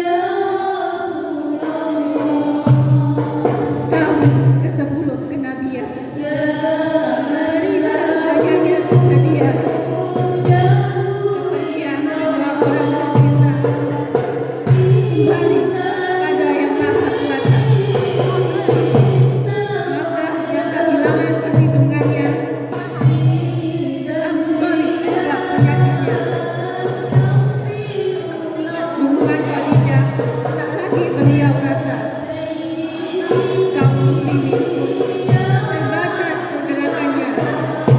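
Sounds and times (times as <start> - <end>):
group singing devotional song: 0.0 - 37.9
hand percussion: 1.4 - 37.9.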